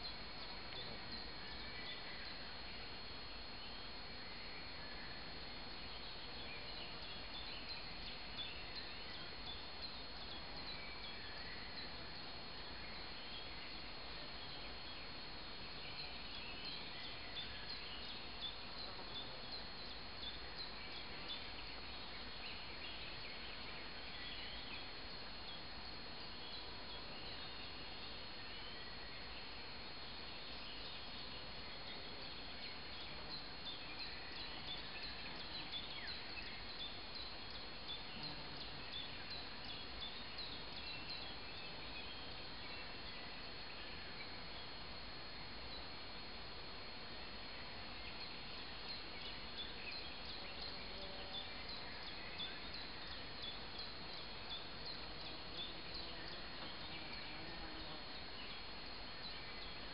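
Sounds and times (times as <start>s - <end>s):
faint outdoor hiss: 0.0s - 59.9s
songbirds chirping: 0.0s - 59.9s.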